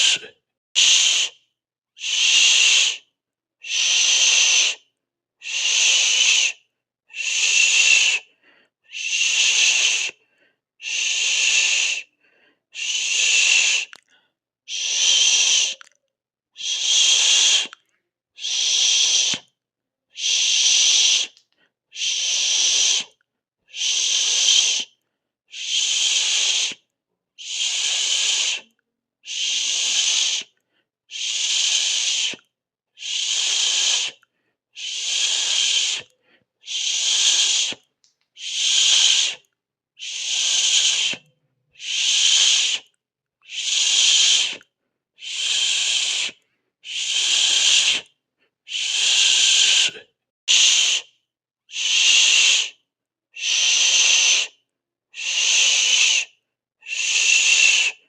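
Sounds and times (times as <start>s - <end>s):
person hissing through mouth: 0.0s - 1.4s, 2.0s - 4.8s, 5.4s - 10.2s, 10.8s - 12.1s, 12.7s - 14.1s, 14.7s - 16.0s, 16.6s - 17.8s, 18.4s - 51.1s, 51.7s - 52.8s, 53.4s - 54.6s, 55.2s - 58.0s.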